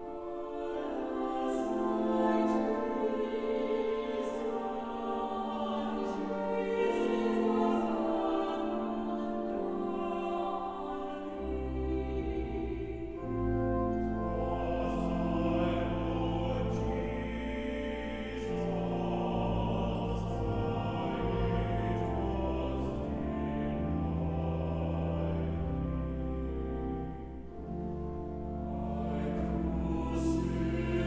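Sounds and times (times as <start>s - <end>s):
choir singing held notes: 0.0s - 31.0s.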